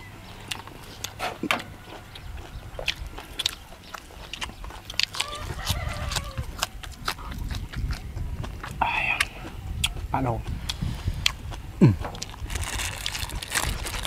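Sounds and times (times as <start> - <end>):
man chewing wetly: 0.1 - 14.0
sharp clicks and crunches: 0.4 - 10.0, 10.7 - 14.0.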